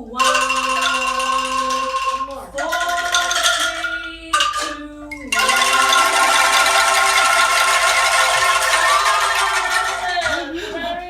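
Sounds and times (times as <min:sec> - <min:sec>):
music: 0:00.0 - 0:11.0
person singing: 0:00.0 - 0:11.0.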